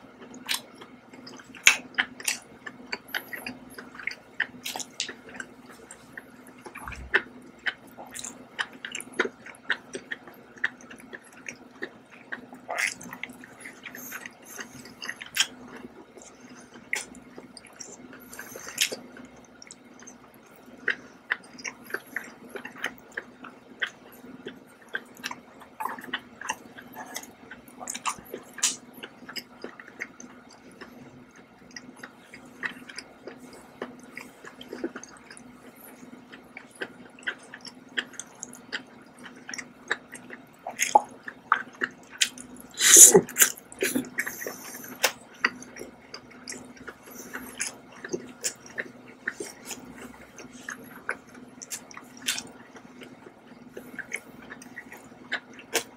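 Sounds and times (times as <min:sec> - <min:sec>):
faint steady hum: 0:00.0 - 0:55.9
wet chewing and lip smacking: 0:00.2 - 0:55.9.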